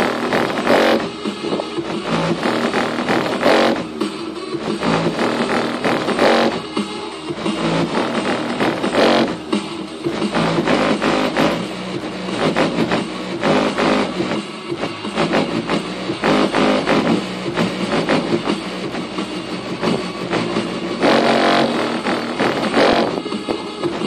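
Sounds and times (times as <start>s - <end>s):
bass-heavy music from car: 0.0s - 24.0s.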